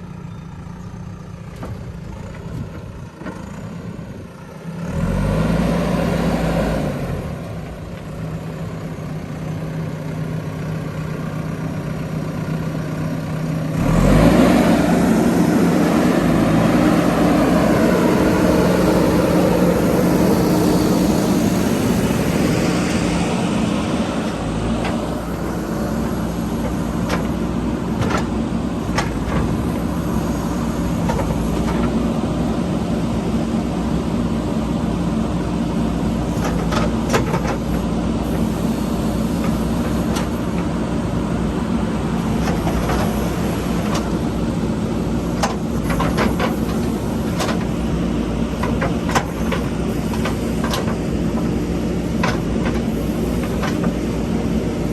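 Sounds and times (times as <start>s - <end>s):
diesel engine revving: 1.8s - 54.9s.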